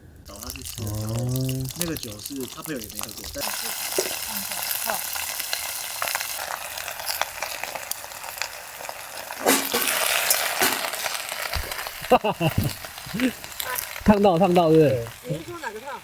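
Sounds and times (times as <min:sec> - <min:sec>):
food sizzling in a hot pan: 0:00.2 - 0:16.0.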